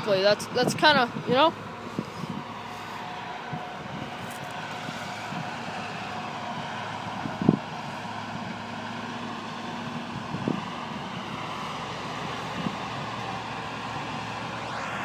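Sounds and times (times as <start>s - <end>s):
harvest machinery engine drone: 0.0s - 15.0s.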